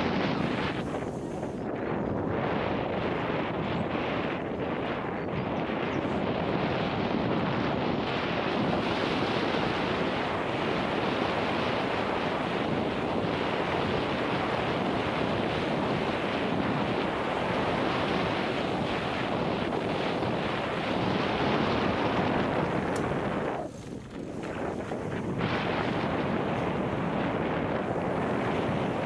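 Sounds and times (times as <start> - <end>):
tyres rolling on dirt trail: 0.0 - 29.0
wind rushing on microphone: 0.0 - 29.0.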